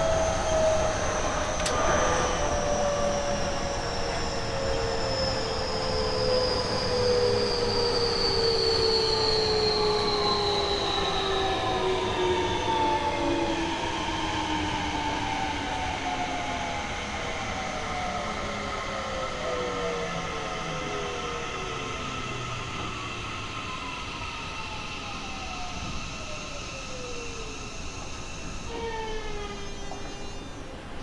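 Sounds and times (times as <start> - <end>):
train motor whine: 0.0 - 31.0.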